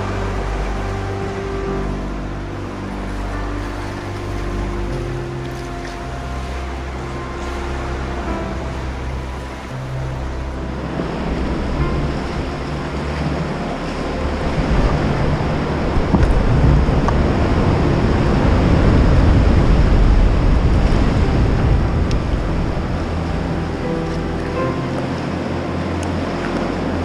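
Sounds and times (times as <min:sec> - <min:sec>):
sea waves: 0:00.0 - 0:27.0
wind buffeting microphone: 0:00.0 - 0:27.0.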